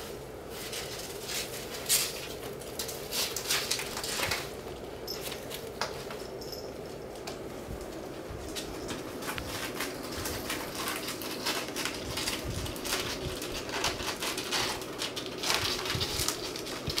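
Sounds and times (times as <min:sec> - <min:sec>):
steady low hum: 0:00.0 - 0:17.0
kitten paws tapping on floor: 0:00.6 - 0:17.0.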